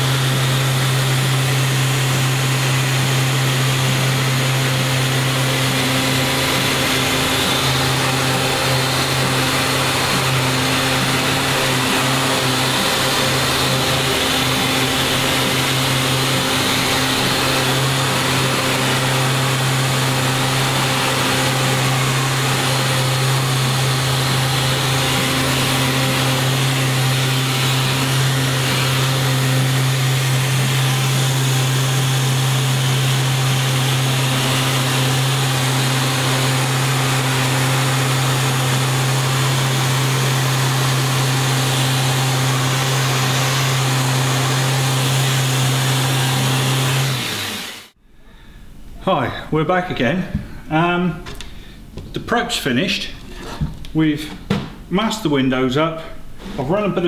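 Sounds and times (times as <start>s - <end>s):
sander humming and hissing: 0.0s - 48.0s.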